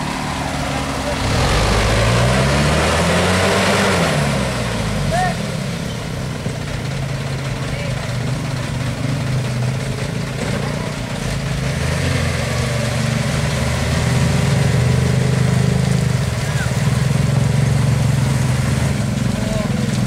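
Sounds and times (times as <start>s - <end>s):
diesel truck engine under load: 0.0s - 20.0s.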